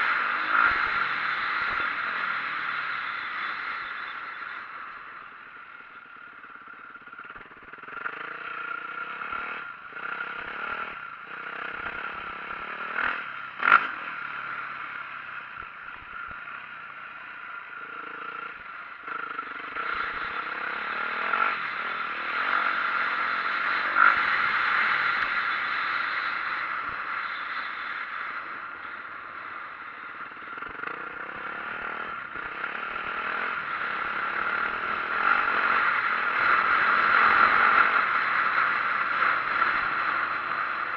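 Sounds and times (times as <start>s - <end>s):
dirt bike engine running: 0.0s - 40.9s
steady rushing noise: 0.0s - 40.9s.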